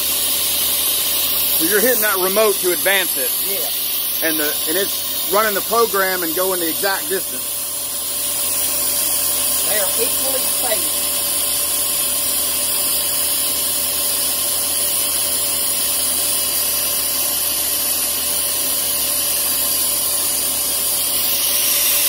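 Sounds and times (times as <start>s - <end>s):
milling machine spindle whine: 0.0s - 22.0s.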